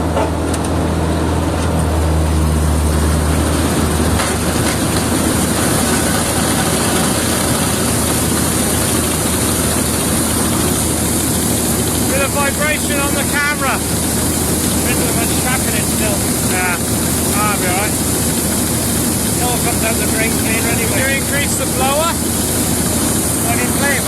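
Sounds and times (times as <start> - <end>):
combine harvester mechanical drone: 0.0 - 24.0.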